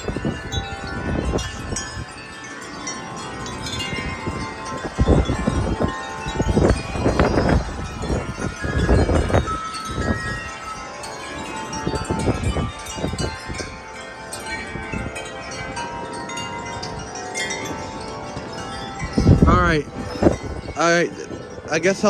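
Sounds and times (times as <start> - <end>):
wind buffeting microphone: 0.0 - 22.0
wind chimes ringing: 0.0 - 22.0.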